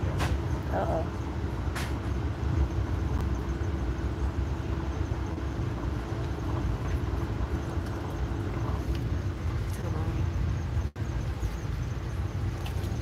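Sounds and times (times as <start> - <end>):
faint steady hum: 0.0 - 13.0
train rumbling inside coach: 0.0 - 13.0.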